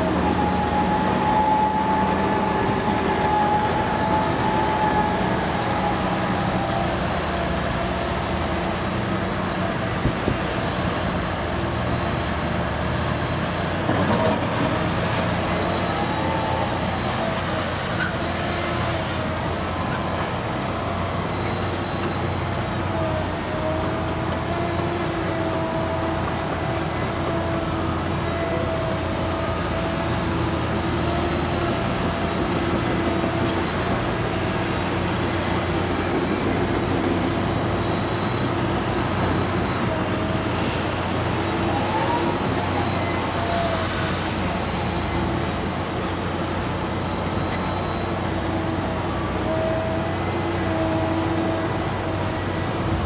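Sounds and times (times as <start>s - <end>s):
diesel engines rumbling: 0.0s - 53.0s.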